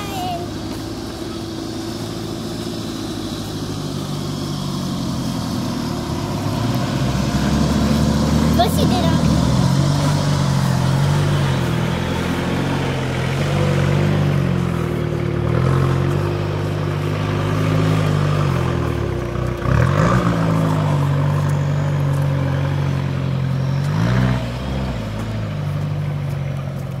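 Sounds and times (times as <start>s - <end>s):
off-road engine revving: 0.0s - 27.0s.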